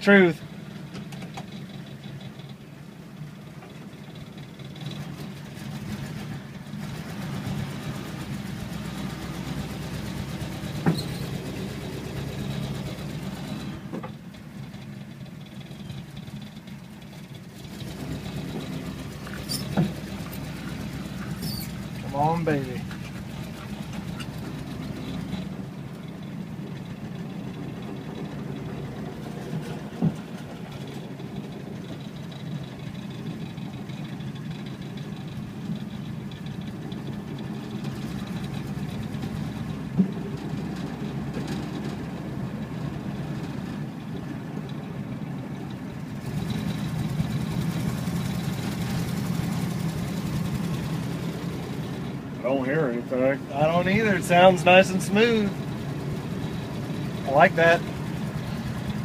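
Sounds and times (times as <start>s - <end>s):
car engine running inside cabin: 0.0s - 59.0s.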